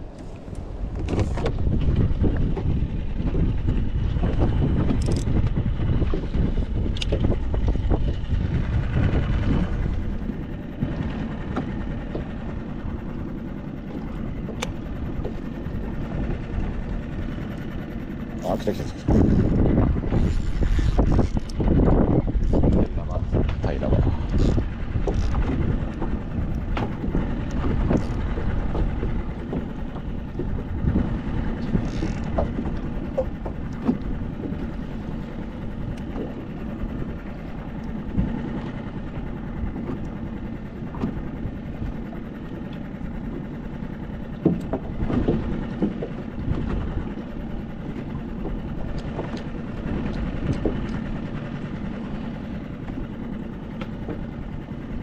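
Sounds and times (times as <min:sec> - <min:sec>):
small boat rumbling: 0:00.0 - 0:55.0.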